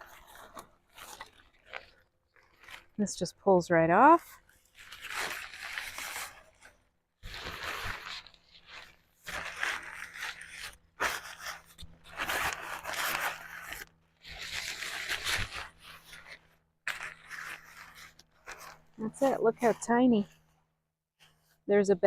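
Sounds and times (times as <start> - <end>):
window screen rustling and scraping: 0.0 - 3.2, 3.9 - 21.6.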